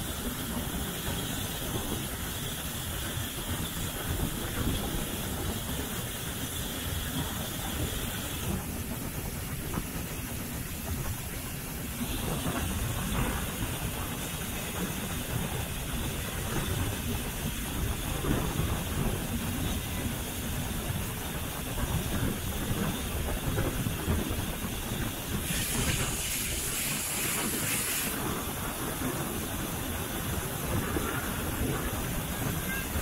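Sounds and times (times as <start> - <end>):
steam hissing: 0.0 - 33.0
steam locomotive rumbling: 0.0 - 33.0.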